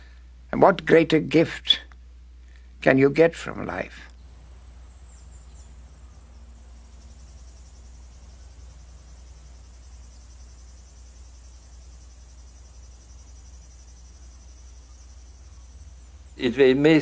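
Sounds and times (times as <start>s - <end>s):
insects trilling: 0.0s - 17.0s
steady low hum: 0.0s - 17.0s.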